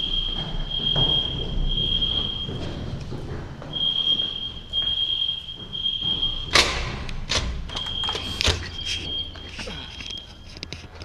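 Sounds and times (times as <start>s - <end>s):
fire alarm beeping: 0.0s - 10.7s.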